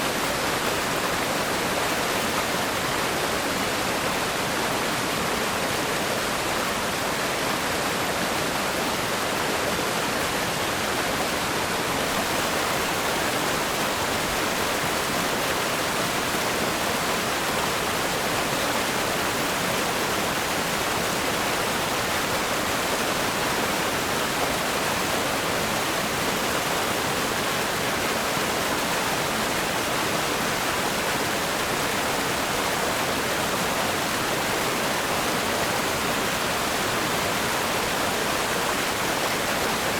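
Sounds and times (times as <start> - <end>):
river rapids rushing over rocks: 0.0 - 39.9.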